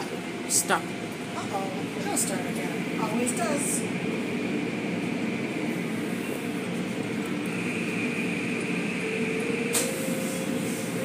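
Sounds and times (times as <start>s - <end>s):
car wash machinery running: 0.0s - 11.0s.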